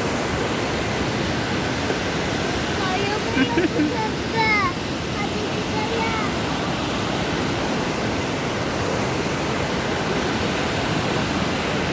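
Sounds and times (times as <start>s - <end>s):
waterfall roaring: 0.0s - 11.9s.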